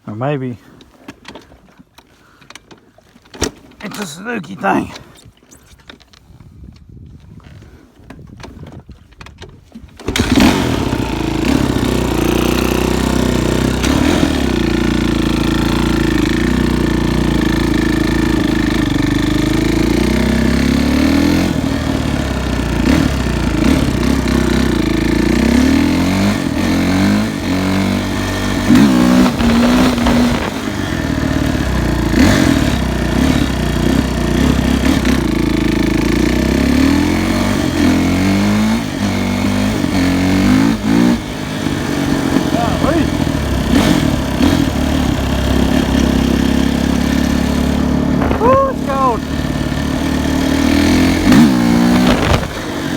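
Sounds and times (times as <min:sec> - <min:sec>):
motorcycle engine revving: 0:10.0 - 0:52.9.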